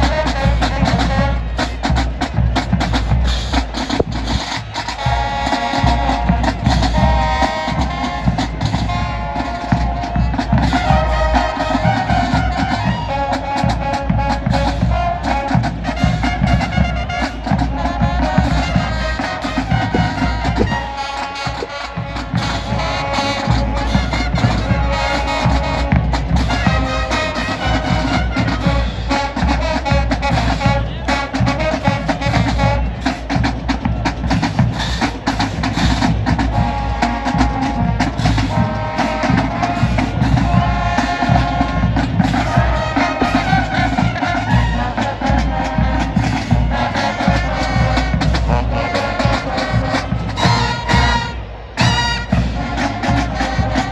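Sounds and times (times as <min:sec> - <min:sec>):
brass band playing: 0:00.0 - 0:53.9
drum line: 0:00.0 - 0:53.9.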